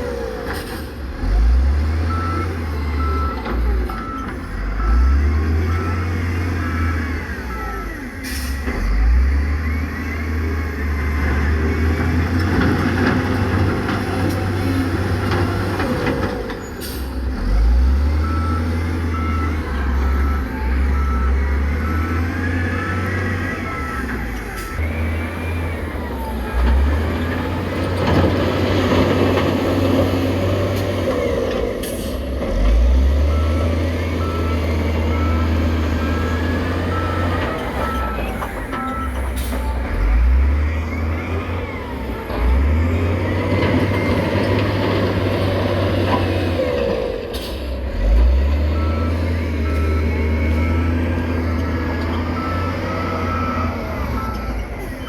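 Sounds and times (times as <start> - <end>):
heavy machinery diesel engines: 0.0 - 55.0
reversing alarm beeping: 1.3 - 45.8, 47.9 - 55.0.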